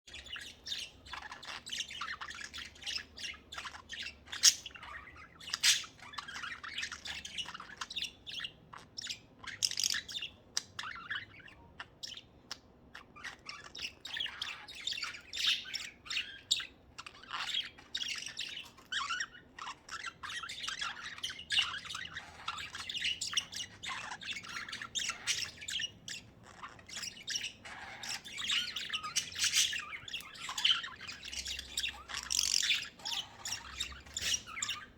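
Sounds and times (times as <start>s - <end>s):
budgerigars chattering and warbling: 0.1s - 34.9s.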